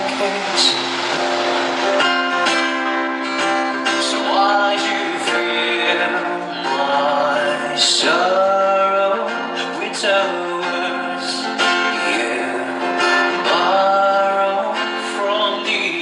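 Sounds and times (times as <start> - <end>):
person singing: 0.0 - 1.0, 3.8 - 16.0
guitar accompaniment: 0.0 - 16.0.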